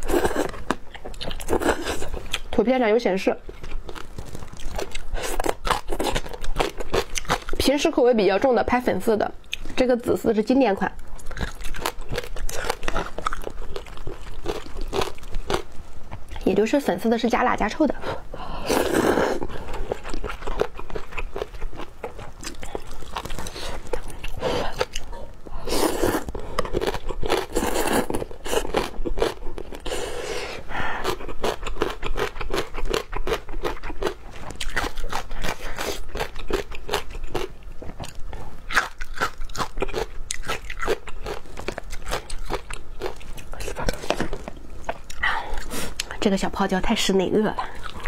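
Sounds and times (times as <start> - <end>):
chewing and crunching: 0.0 - 8.0, 11.0 - 16.5, 18.7 - 30.1, 30.8 - 46.3, 47.5 - 48.0.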